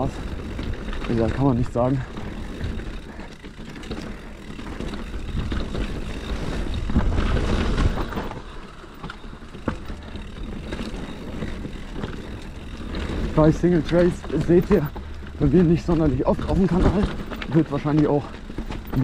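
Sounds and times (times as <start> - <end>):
bike clicks and knocks: 0.0 - 19.0
bike tyre noise on dirt: 0.0 - 19.0.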